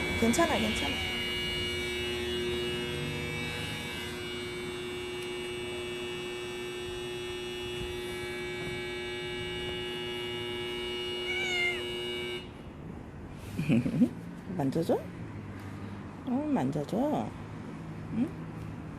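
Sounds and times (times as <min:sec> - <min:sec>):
steady electrical hum: 0:00.0 - 0:18.9.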